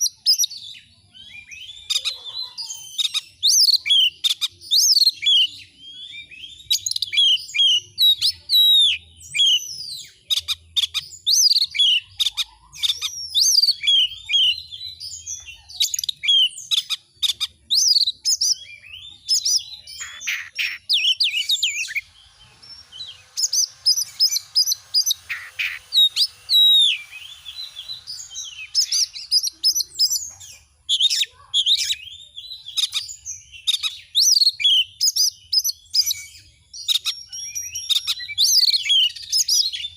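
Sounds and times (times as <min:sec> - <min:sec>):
bird whistles and chirps: 0:00.0 - 0:39.9.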